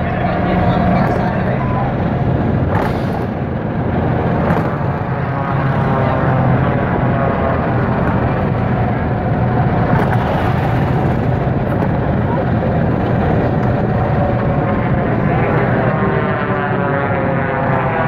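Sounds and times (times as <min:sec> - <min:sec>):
golf cart driving: 0:00.0 - 0:18.0.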